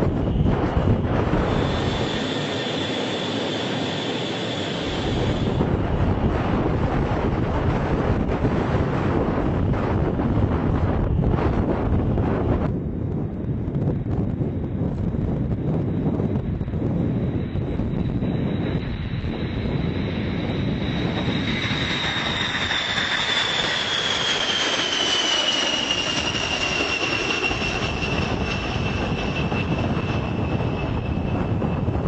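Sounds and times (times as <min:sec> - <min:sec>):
jet engine whine: 0:00.0 - 0:32.0
wind buffeting microphone: 0:00.0 - 0:32.0.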